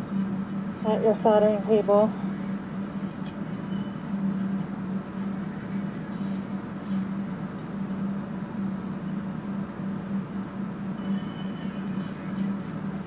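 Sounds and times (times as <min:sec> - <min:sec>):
ventilation fans humming: 0:00.0 - 0:13.0.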